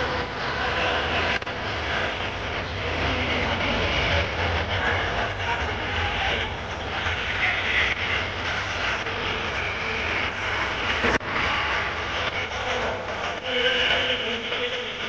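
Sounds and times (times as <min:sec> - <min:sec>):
heavy low rumble: 0:00.0 - 0:14.3
dancing crowd din: 0:00.0 - 0:15.0.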